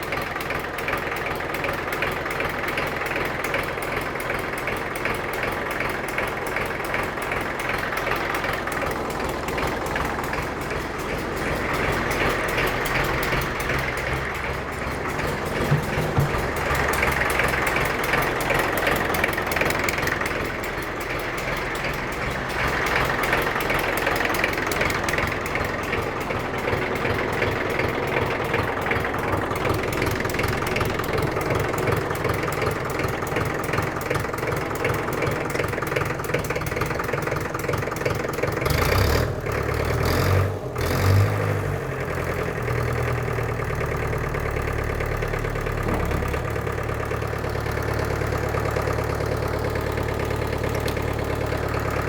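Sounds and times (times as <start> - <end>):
diesel engine of a dozer running: 0.0 - 52.0.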